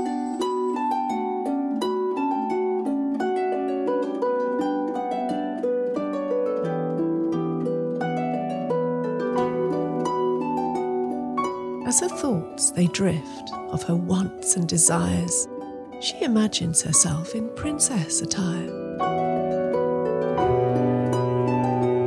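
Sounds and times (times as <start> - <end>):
plucked string instrument: 0.0 - 22.0.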